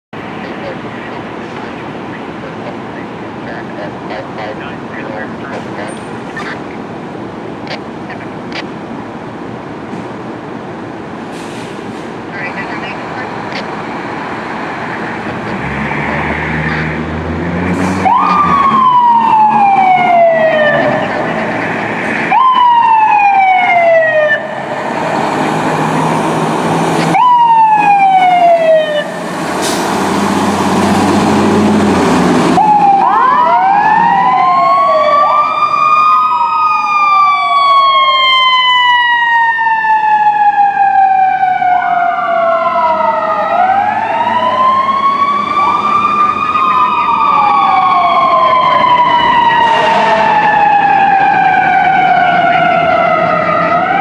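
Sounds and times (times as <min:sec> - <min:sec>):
electronic wailing sirens: 0:00.2 - 0:06.8, 0:12.3 - 0:29.4, 0:30.2 - 0:54.0.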